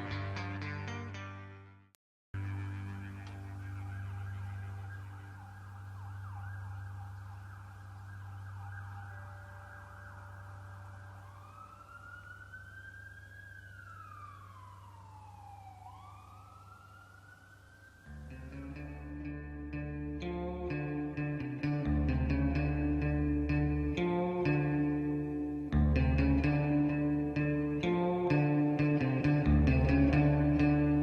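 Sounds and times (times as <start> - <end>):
steady low hum: 2.4 - 28.2
emergency vehicle siren: 2.4 - 31.0.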